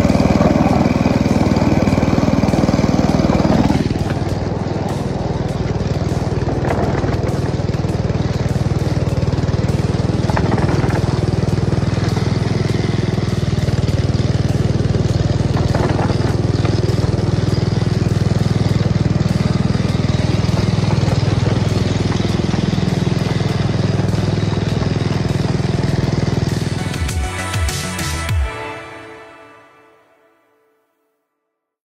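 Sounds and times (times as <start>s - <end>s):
small locomotive engine running: 0.0s - 29.2s.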